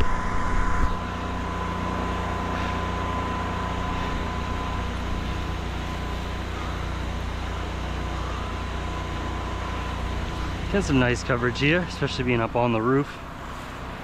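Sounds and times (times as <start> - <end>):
pump droning: 0.0 - 14.0
pressure washer spray hissing: 1.1 - 14.0.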